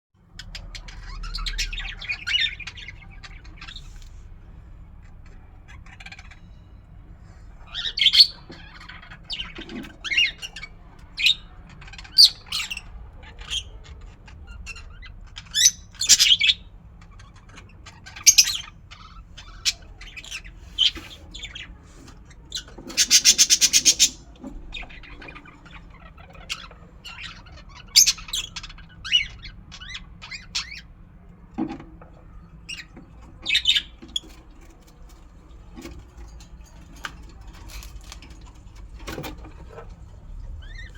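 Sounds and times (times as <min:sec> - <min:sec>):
lovebirds chirping and squawking: 0:00.2 - 0:31.4, 0:32.0 - 0:40.9.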